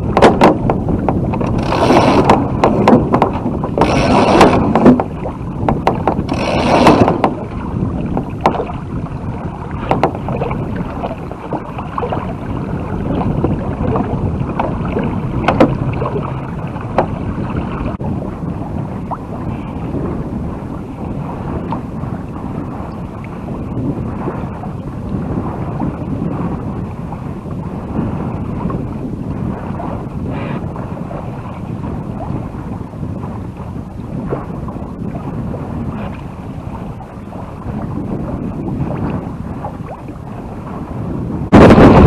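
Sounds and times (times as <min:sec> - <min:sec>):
water rushing along hull: 0:00.0 - 0:42.0
wind on microphone: 0:00.0 - 0:42.0.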